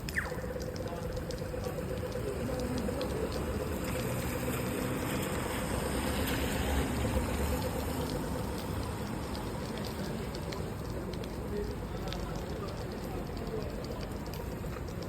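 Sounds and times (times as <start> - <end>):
rain: 0.0 - 15.0
traffic on wet road: 0.0 - 15.0.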